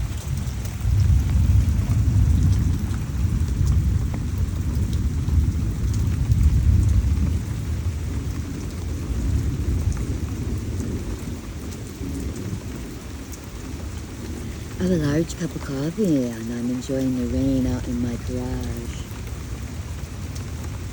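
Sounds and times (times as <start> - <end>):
heavy rain falling: 0.0 - 20.9
low rumble of thunder: 0.0 - 20.9
water drips: 0.0 - 20.9.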